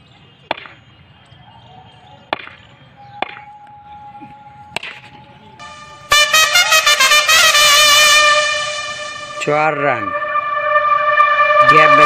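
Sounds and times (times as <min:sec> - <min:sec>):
faint outdoor noise: 0:00.0 - 0:11.0.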